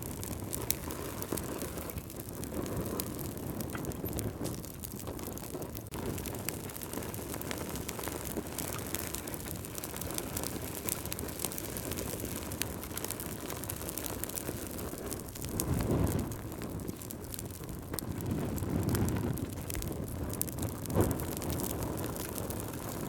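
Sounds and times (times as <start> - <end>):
low rush of flame: 0.0 - 23.0
wood fire crackling and popping: 0.0 - 23.0.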